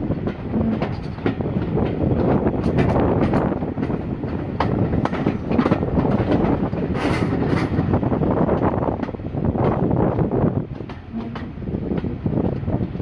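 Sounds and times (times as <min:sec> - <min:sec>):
train wheels clattering over rail joints: 0:00.0 - 0:13.0.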